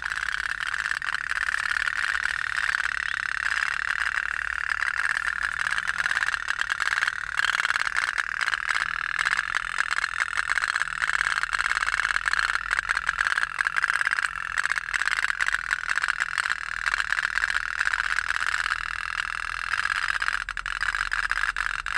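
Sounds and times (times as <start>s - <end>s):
toy steam boat popping rattle: 0.0s - 21.9s.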